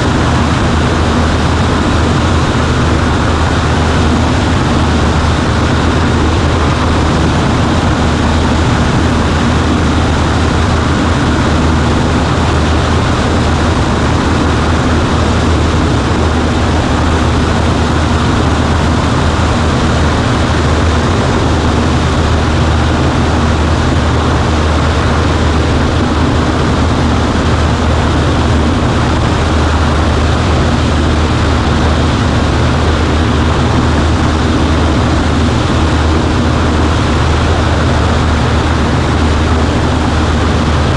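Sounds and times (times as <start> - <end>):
propeller plane engine drone: 0.0 - 40.9.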